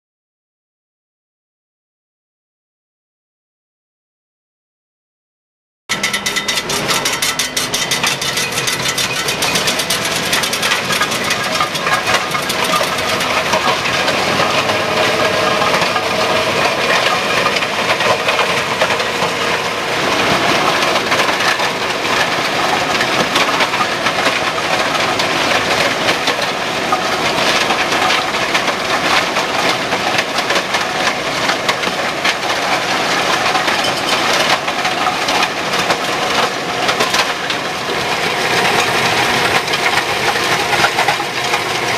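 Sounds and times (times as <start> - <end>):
crackle and clatter of crushed stone: 5.9 - 38.0, 38.6 - 41.9
tractor engine running: 5.9 - 41.9.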